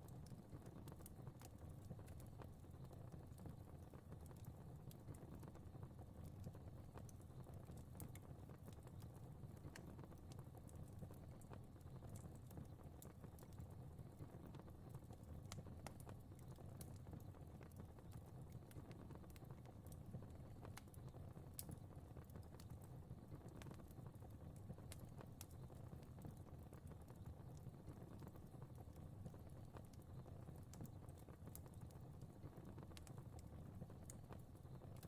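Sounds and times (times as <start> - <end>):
fire crackling faintly: 0.0 - 35.0.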